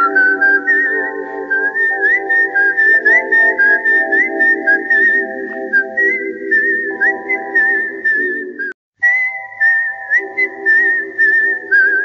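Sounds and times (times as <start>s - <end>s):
whistled melody: 0.0s - 12.0s.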